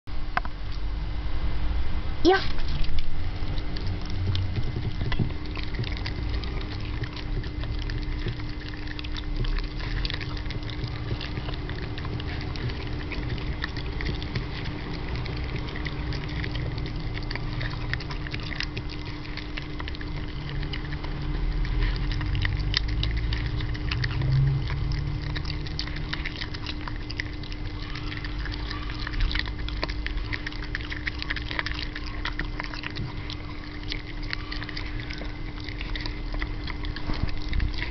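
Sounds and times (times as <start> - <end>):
faint steady hum: 0.1 - 37.9
dog chewing and smacking: 2.2 - 37.9.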